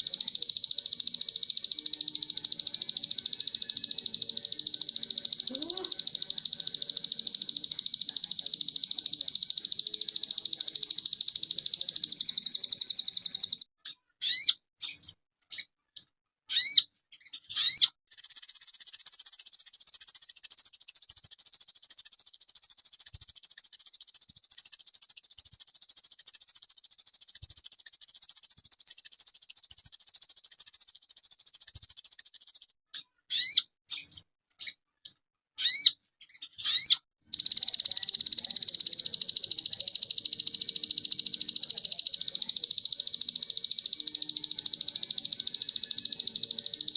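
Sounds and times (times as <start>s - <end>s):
songbird rapid trilling: 0.0s - 13.6s, 17.6s - 32.7s, 36.7s - 46.9s
upward-sweeping bird chirps: 0.0s - 15.7s, 16.5s - 34.8s, 35.6s - 46.9s.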